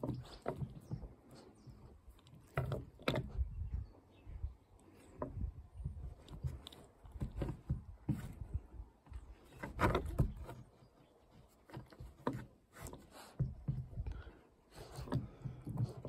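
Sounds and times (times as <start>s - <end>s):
puppy claws scraping on wood: 0.0s - 3.6s, 4.8s - 16.0s.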